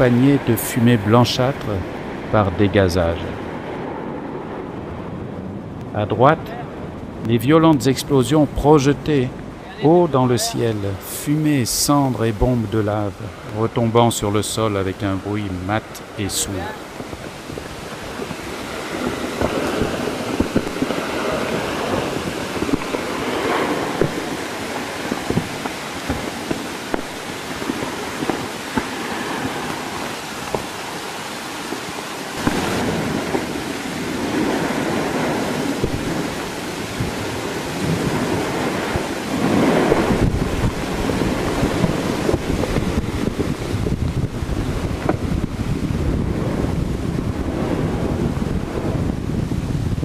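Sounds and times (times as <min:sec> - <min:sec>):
crackling spikes: 0:00.0 - 0:50.0
volcano eruption roaring: 0:00.0 - 0:50.0.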